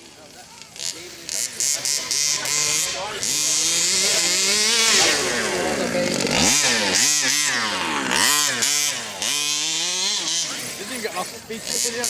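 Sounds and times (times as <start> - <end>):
remote control car engine revving: 0.0 - 12.0.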